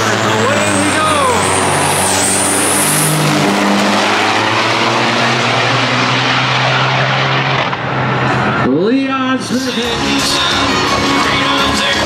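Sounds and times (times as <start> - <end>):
high whine: 0.0 - 12.0
truck diesel engines accelerating: 0.0 - 12.0.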